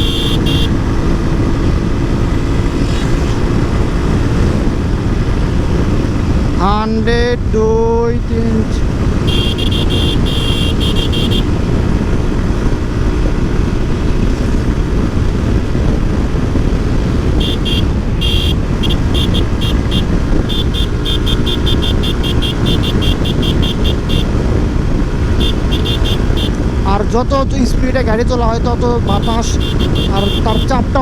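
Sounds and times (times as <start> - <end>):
motorcycle engine running: 0.0 - 7.1, 8.2 - 27.2, 27.8 - 31.0
wind rushing over microphone: 0.0 - 10.3, 11.0 - 31.0.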